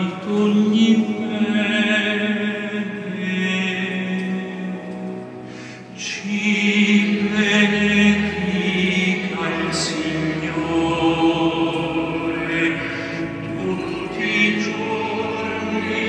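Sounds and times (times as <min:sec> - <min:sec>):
choir singing long held notes: 0:00.0 - 0:16.0.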